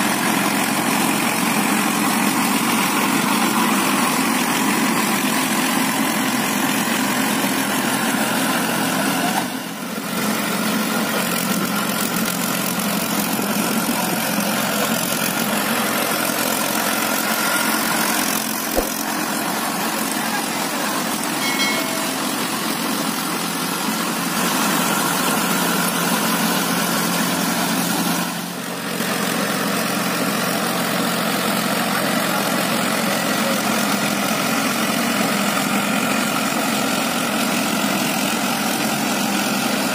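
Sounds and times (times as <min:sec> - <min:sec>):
rotary tiller churning mud: 0:00.0 - 0:39.9
tractor diesel engine running: 0:00.0 - 0:39.9.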